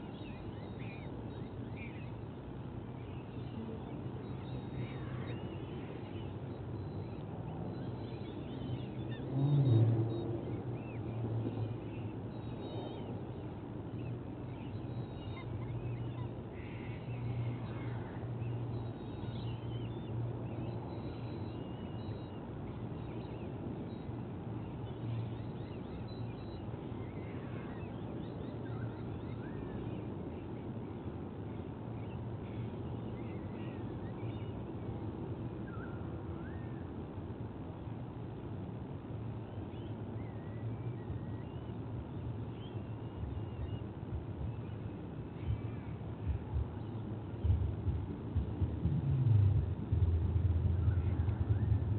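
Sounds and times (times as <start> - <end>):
faint bird calls and whistles: 0.0 - 51.9
outdoor rumble with low hum: 0.0 - 51.9.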